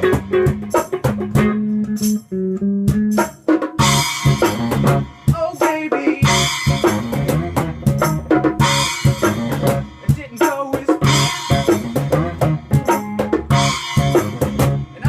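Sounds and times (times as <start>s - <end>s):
bass guitar: 0.0s - 15.0s
drum kit with cymbals: 0.0s - 15.0s
electric guitar: 0.0s - 15.0s.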